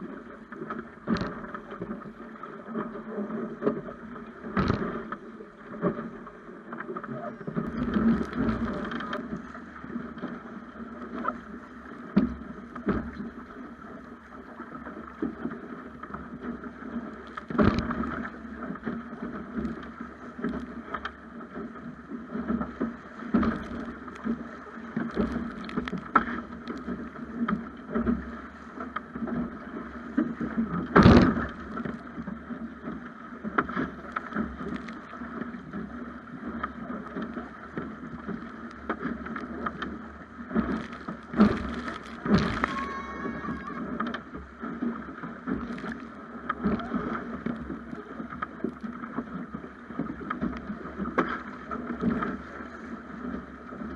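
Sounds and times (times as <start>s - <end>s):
water rushing against hull: 0.0s - 53.9s
water splashes: 0.0s - 53.9s.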